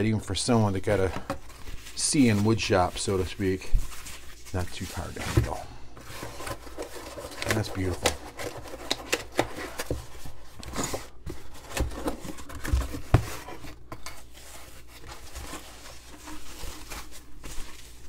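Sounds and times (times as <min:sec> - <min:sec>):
foam packing wrap rustling: 0:00.0 - 0:18.0
cardboard box scraping and rustling: 0:03.4 - 0:18.0.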